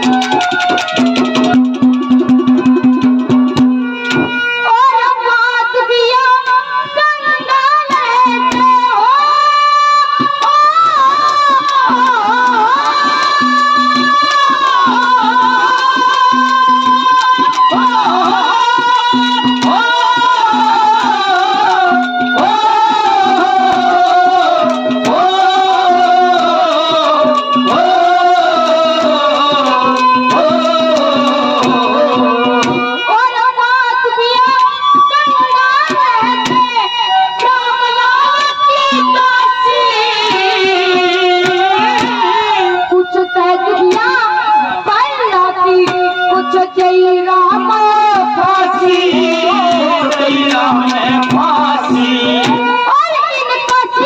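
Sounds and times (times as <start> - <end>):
hand drum beats: 0.0 - 5.0, 6.2 - 54.0
harmonium melody: 0.0 - 54.0
high singing voice: 0.0 - 54.0.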